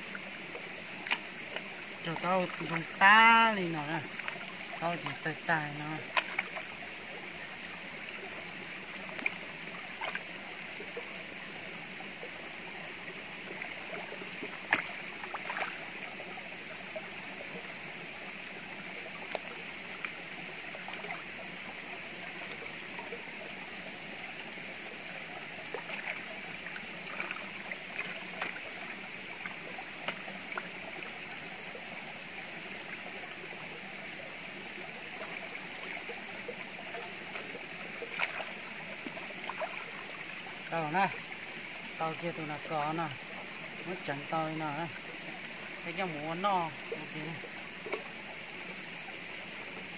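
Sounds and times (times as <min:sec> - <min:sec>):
stream running over rock: 0:00.0 - 0:49.9.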